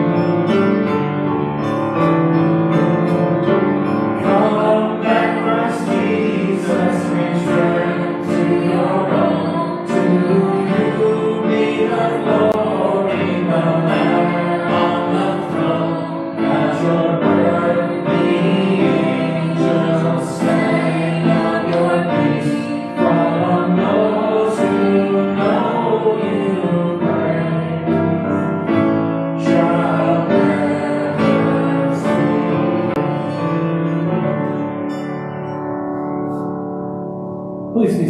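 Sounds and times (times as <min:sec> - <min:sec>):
acoustic guitars: 0:00.0 - 0:38.0
piano: 0:00.0 - 0:38.0
people singing worship song: 0:03.8 - 0:35.0.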